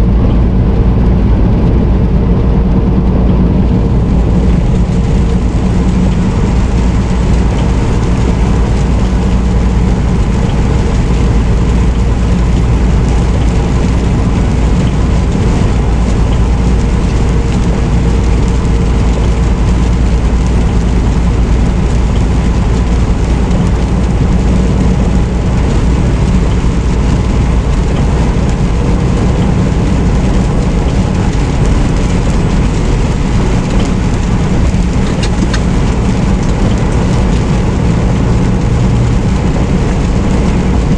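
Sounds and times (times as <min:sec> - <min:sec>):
road and tyre noise: 0:00.0 - 0:40.9
truck engine drone: 0:00.0 - 0:40.9.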